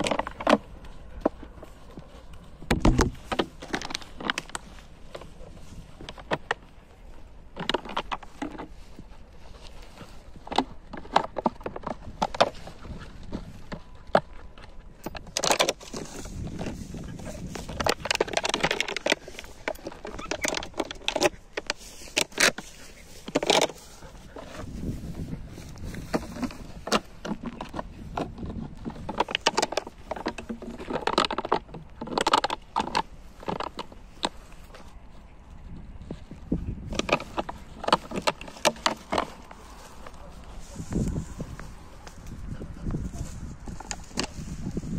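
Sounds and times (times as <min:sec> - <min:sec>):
plastic bottle crackling: 0:00.0 - 0:35.0, 0:36.1 - 0:44.9.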